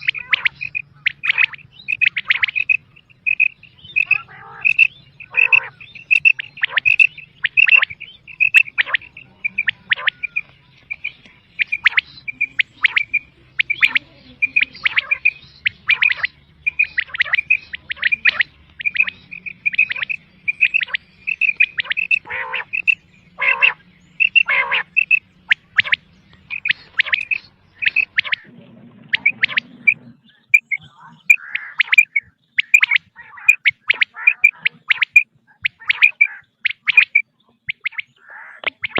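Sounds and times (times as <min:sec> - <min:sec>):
quail calls: 0:00.0 - 0:38.9.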